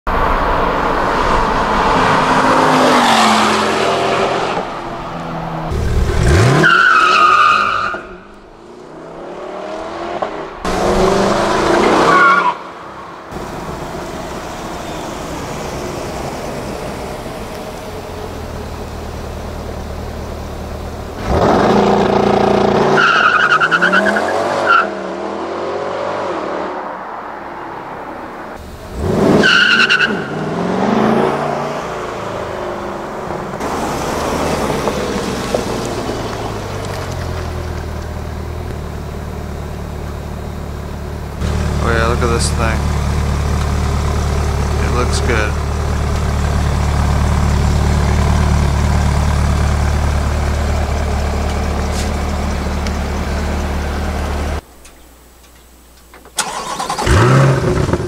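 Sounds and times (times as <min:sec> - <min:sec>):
car engine accelerating: 0:00.1 - 0:54.6, 0:56.4 - 0:58.0.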